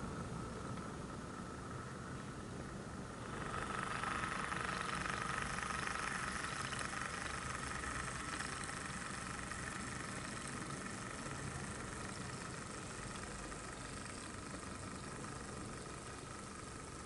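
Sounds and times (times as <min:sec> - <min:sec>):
higher hum: 0:00.0 - 0:17.0
model locomotive engine drone: 0:00.0 - 0:17.0.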